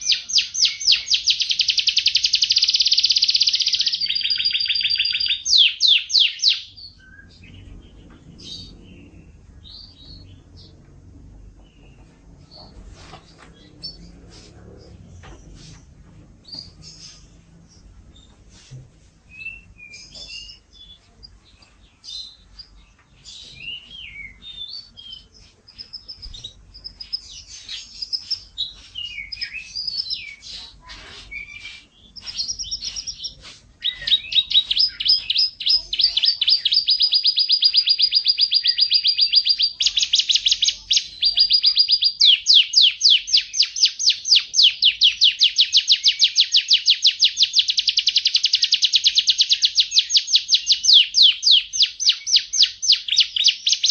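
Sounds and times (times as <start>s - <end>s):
canary singing: 0.0s - 15.5s, 19.3s - 53.9s.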